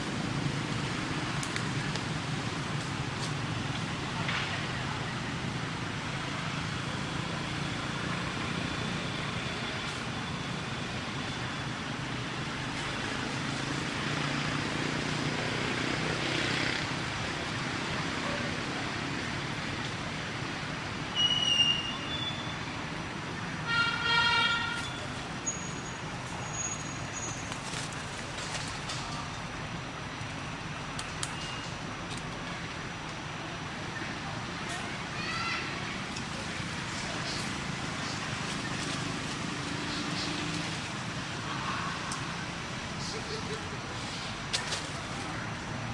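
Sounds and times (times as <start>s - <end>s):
traffic noise: 0.0s - 45.9s.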